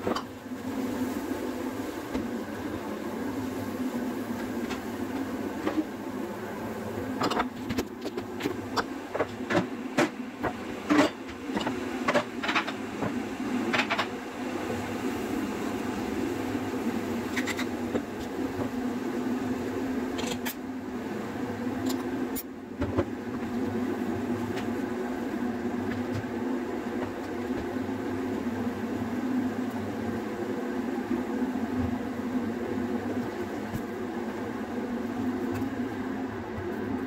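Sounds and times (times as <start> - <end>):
extractor fan hum: 0.0 - 37.0.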